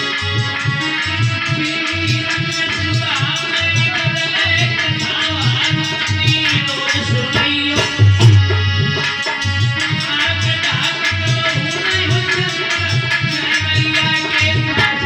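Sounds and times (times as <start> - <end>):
held harmonium notes: 0.0 - 15.0
jingling percussion: 0.0 - 15.0
hand drum fast beat: 2.0 - 15.0.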